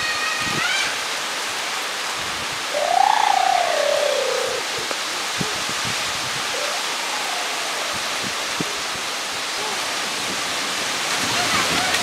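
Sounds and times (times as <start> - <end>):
wind rushing through palm trees: 0.0 - 12.0
wind gusts hitting microphone: 2.2 - 12.0.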